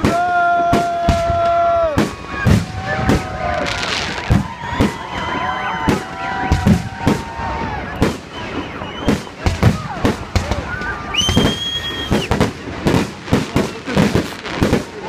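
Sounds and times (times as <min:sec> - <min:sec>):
whistling firework tones: 0:00.0 - 0:15.0.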